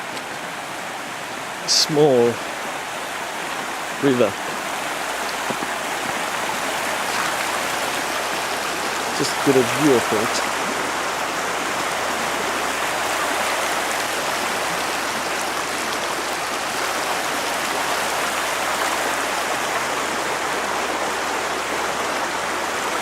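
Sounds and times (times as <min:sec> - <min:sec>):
river water running over stones: 0:00.0 - 0:23.0.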